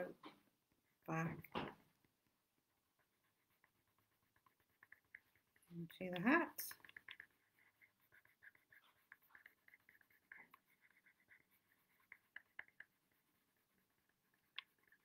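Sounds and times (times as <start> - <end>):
pencil scratching on paper: 2.8 - 15.0.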